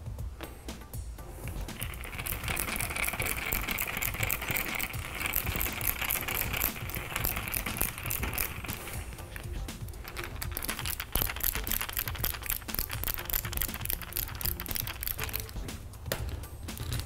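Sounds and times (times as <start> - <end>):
screwdriver clicking in plastic case: 1.8 - 17.0.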